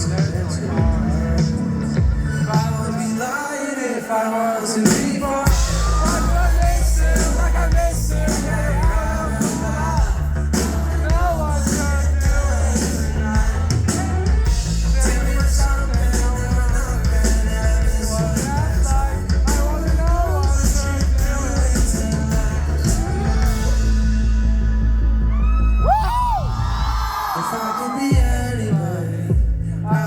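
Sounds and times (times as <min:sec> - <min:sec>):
live pop-rock band playing: 0:00.0 - 0:30.0.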